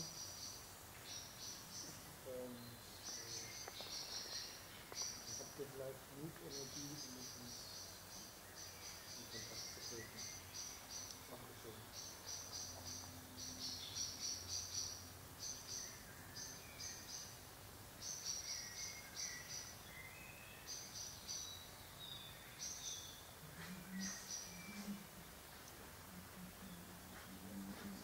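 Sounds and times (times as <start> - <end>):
crickets chirping: 0.0 - 28.0
faint bird calls: 0.0 - 28.0.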